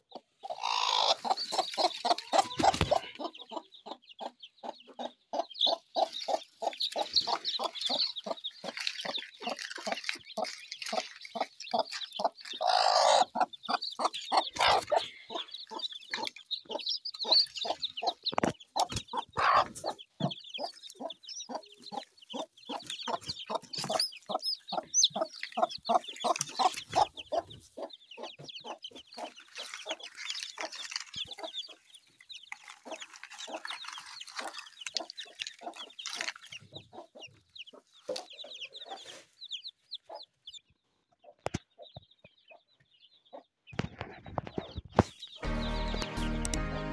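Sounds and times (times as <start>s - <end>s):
hen clucking: 0.0s - 46.2s
chicks peeping: 0.0s - 46.9s.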